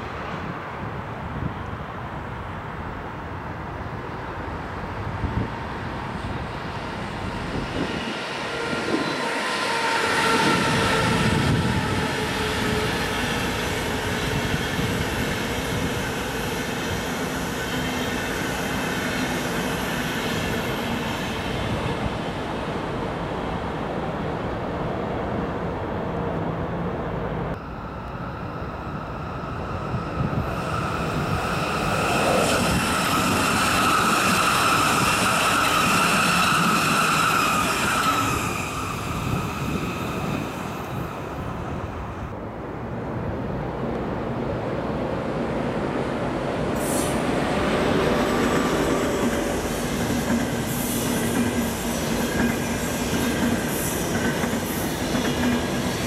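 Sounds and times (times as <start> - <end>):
passenger trains running past: 0.0 - 56.0
rail and wheel noise: 0.0 - 56.0.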